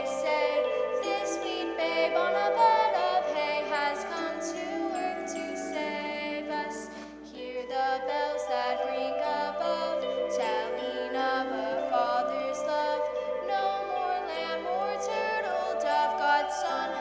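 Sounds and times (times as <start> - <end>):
voices singing with music: 0.0 - 17.0.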